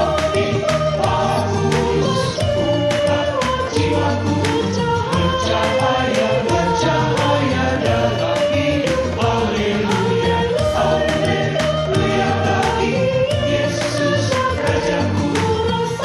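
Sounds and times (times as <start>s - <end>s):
instrumental backing with bass: 0.0s - 16.0s
mixed choir singing a hymn: 0.0s - 16.0s.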